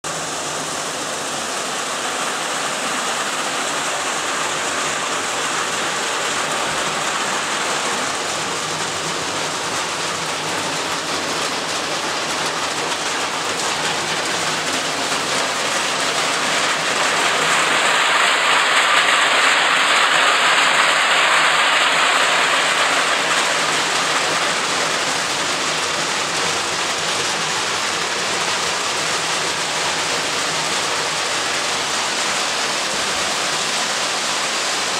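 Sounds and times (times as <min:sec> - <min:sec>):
hail and rain on tiled roofs: 0:00.0 - 0:34.9.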